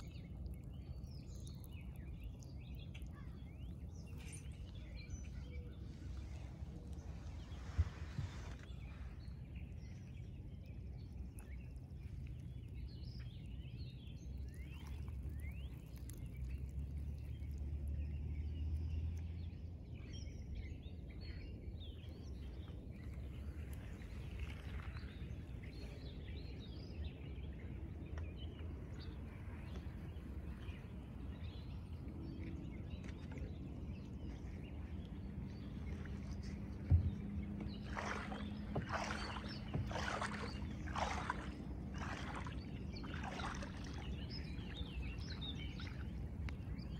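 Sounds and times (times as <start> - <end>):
steady low rumble: 0.0 - 46.9.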